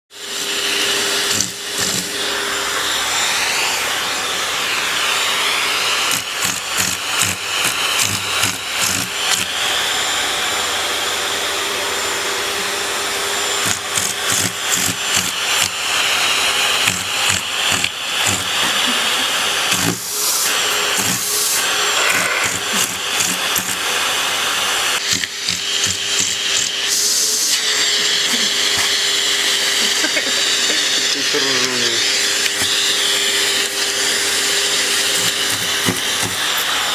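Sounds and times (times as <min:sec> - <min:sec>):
vacuum cleaner whooshing whine: 0:00.1 - 0:36.9.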